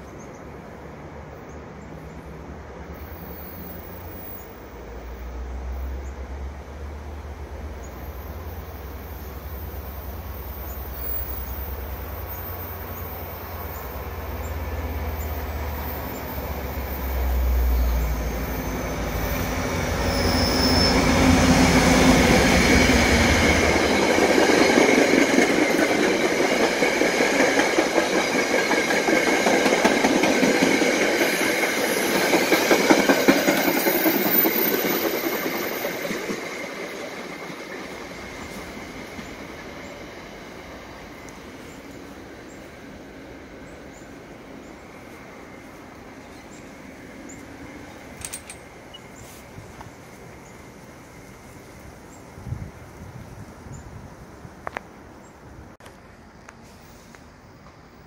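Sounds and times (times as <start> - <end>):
high ringing of rails: 0.0 - 52.4
train low rumble: 0.0 - 58.0.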